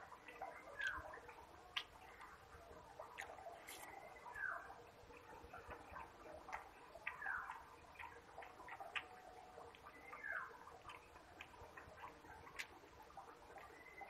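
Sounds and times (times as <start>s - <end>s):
moist chewing and lip smacks: 0.0s - 14.0s.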